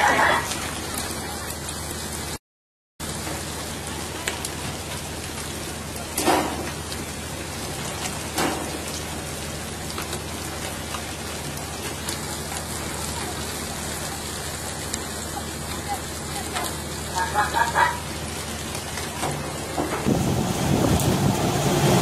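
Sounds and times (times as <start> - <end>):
water spraying along boat hull: 0.0 - 2.4, 3.0 - 22.0.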